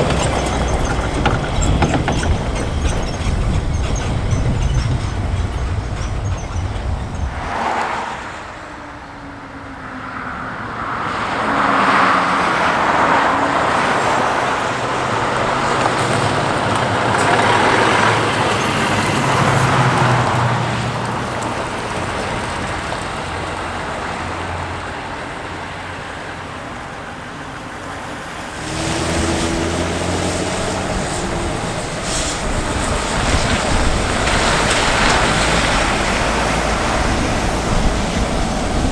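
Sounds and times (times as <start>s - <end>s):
heavy truck engines passing: 0.0s - 38.9s.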